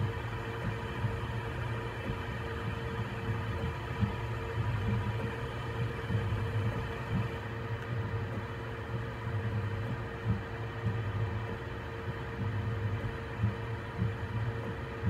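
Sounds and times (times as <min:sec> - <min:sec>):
low whirring of print head: 0:00.0 - 0:15.0
steady fan hum: 0:00.0 - 0:15.0.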